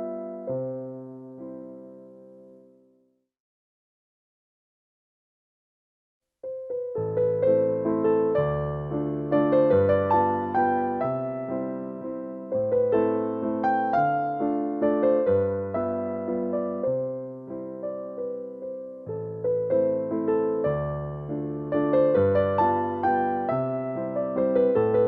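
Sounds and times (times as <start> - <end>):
gentle electric piano melody: 0.0 - 2.9, 6.4 - 25.0.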